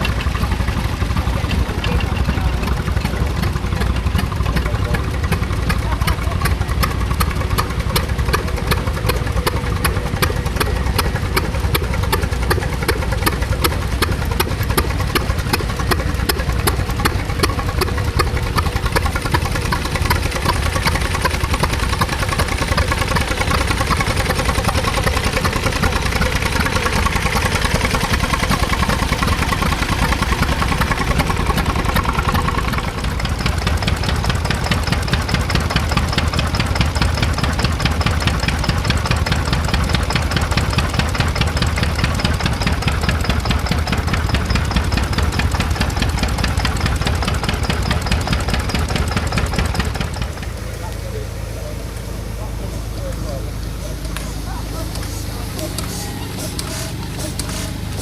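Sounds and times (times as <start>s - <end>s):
stationary engine running: 0.0s - 58.0s.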